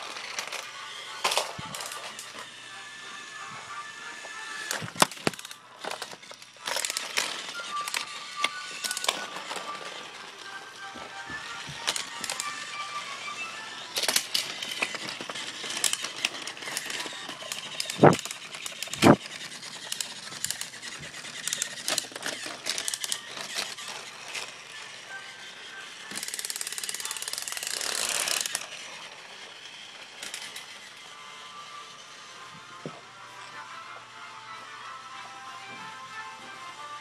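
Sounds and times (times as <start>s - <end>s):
plastic toy trains clicking: 0.0s - 3.4s, 4.2s - 31.2s.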